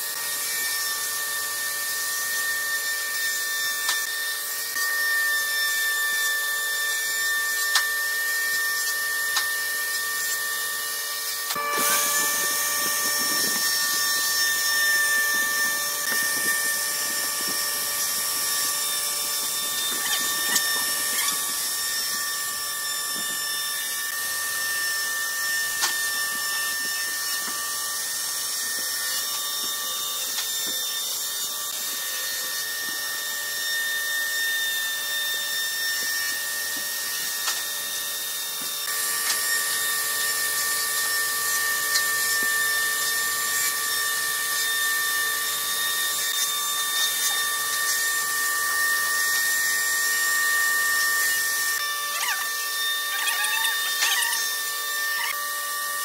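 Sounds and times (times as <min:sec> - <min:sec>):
router bit cutting wood: 0:00.0 - 0:56.0
router whining: 0:00.0 - 0:56.0.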